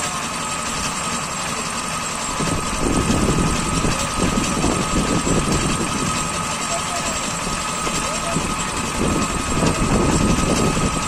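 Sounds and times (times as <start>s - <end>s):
concrete cutting saw running: 0.0s - 11.0s.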